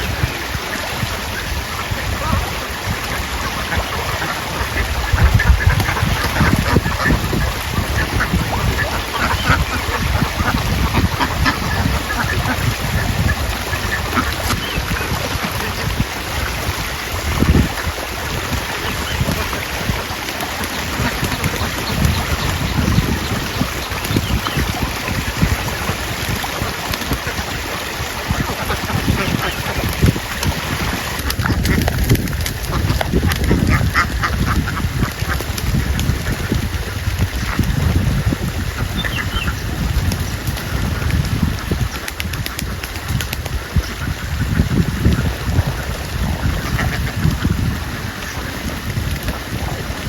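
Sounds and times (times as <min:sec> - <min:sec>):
flock of ducks quacking: 0:00.0 - 0:50.0.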